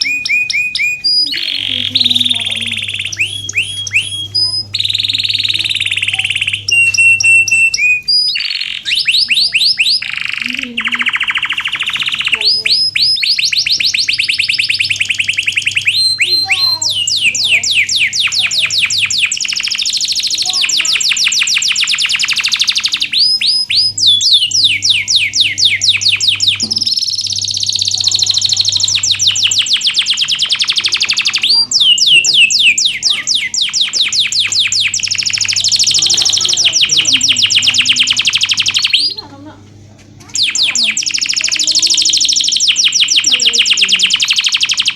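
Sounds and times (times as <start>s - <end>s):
canary singing trills: 0.0s - 44.9s
faint steady hum: 0.0s - 44.9s.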